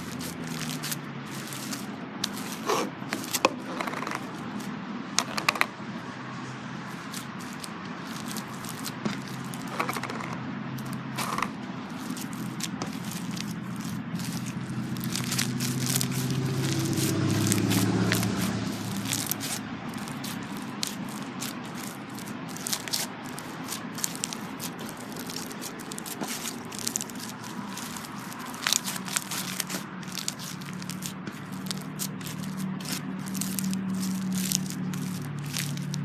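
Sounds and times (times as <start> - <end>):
slime crackling and popping: 7.0 - 36.0.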